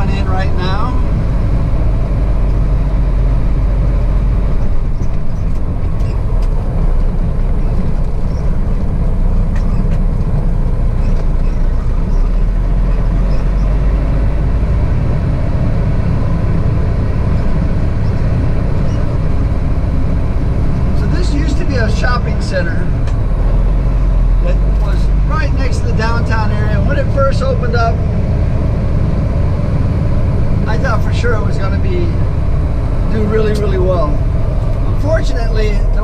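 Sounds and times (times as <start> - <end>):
truck diesel engine rumble: 0.0 - 36.0.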